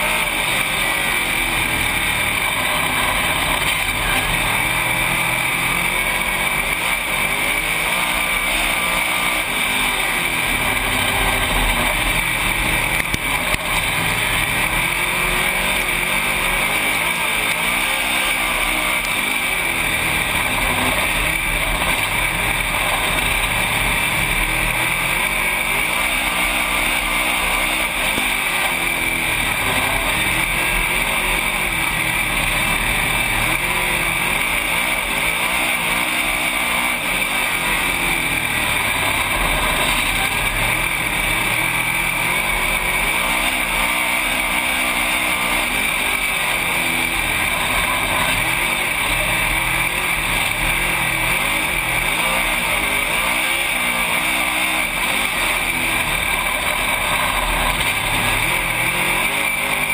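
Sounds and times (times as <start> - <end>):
racing engine at full throttle: 0.0 - 59.9.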